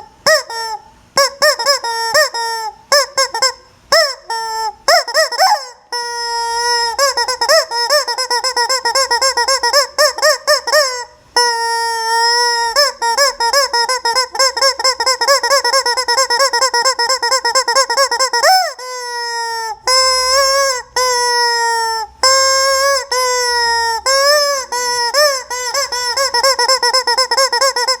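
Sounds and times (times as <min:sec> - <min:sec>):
rubber chicken toy squawking: 0:00.0 - 0:28.0.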